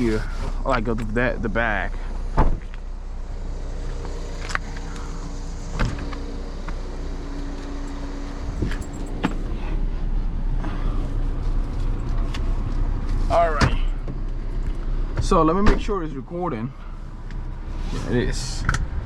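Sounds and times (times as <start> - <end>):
car engine running: 0.0 - 18.2.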